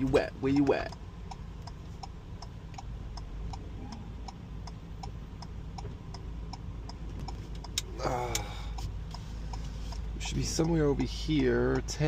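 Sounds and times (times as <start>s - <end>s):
engine idling hum: 0.0s - 12.0s
turn signal ticking: 0.0s - 12.0s.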